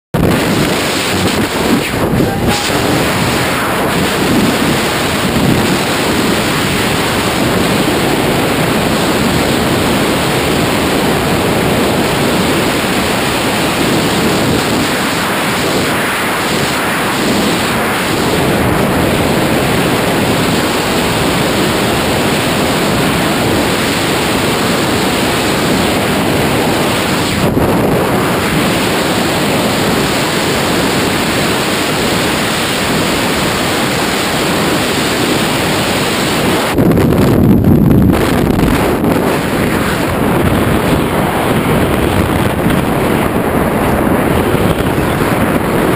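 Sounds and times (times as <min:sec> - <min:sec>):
wind rushing over microphone: 0:00.1 - 0:45.9.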